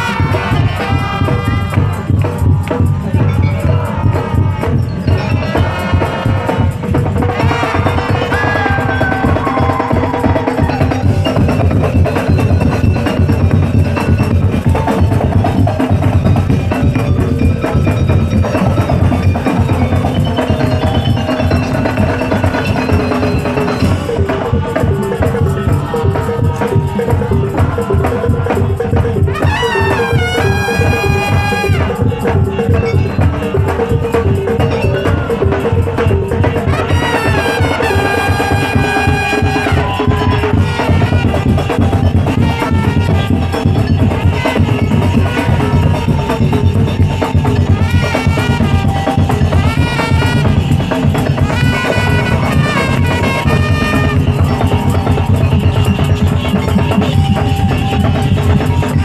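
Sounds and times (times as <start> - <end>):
fast drumming: 0.0 - 59.0
pitched melodic line: 0.0 - 59.0
wooden percussion: 0.0 - 59.0.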